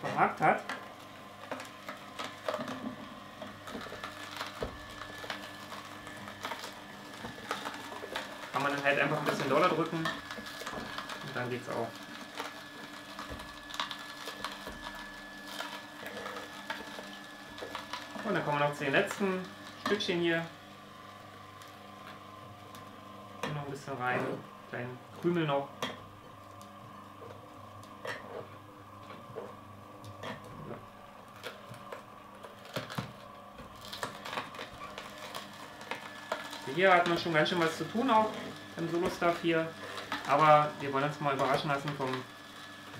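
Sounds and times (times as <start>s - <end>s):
carrot cracking in juicer: 0.0s - 42.9s
juicer motor hum: 0.0s - 42.9s.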